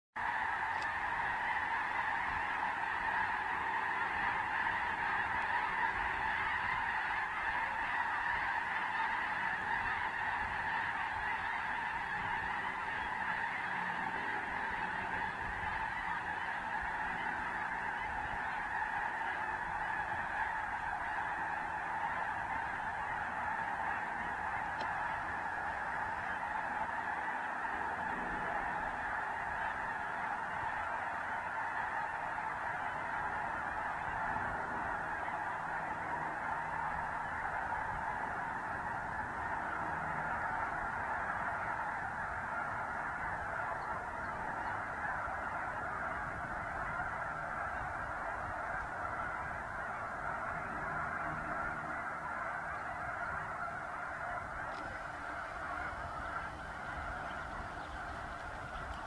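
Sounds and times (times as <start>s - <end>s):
geese honking: 0.2s - 59.0s.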